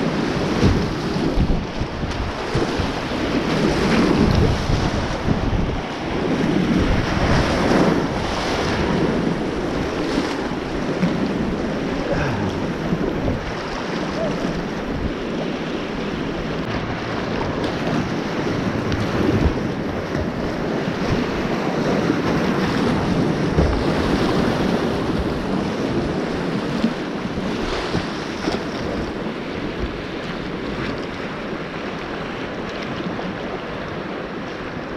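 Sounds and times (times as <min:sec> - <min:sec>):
river water rushing and splashing: 0:00.0 - 0:34.9
wind buffeting microphone: 0:00.0 - 0:34.9.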